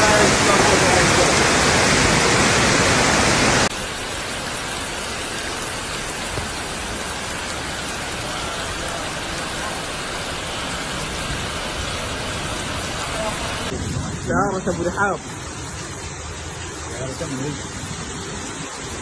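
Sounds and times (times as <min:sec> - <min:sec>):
floodwater torrent rushing: 0:00.0 - 0:19.0
rain and water flowing: 0:00.0 - 0:19.0.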